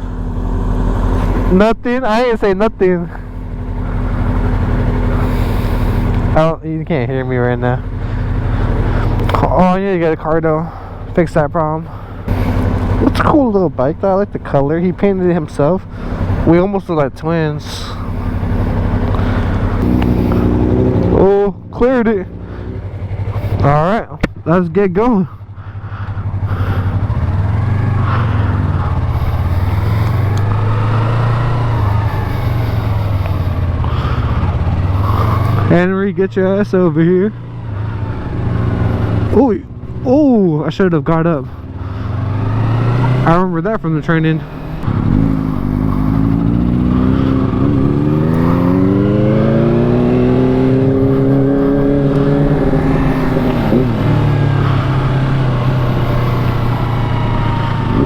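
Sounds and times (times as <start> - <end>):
motorcycle engine pulling away: 0.0 - 1.6, 3.1 - 11.2, 11.8 - 23.8, 25.3 - 58.0.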